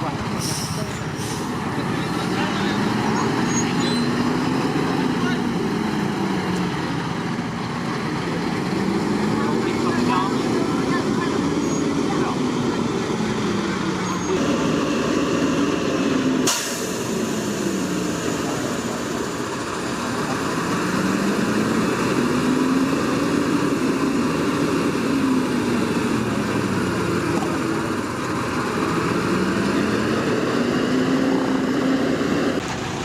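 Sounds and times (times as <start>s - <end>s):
diesel truck engine under load: 0.0s - 33.0s.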